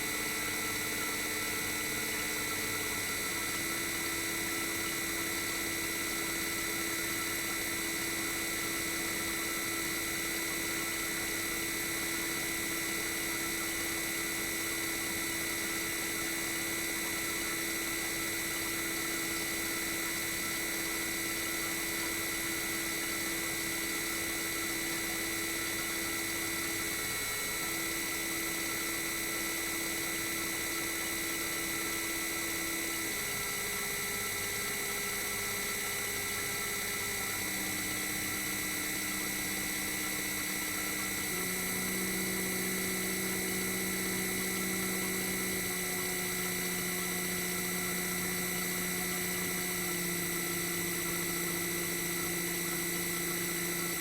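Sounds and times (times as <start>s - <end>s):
compressor hum with inverter whine: 0.0s - 54.0s.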